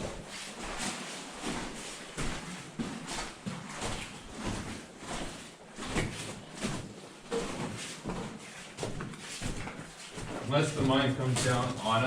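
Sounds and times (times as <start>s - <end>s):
footsteps on rocky floor: 0.0s - 12.0s.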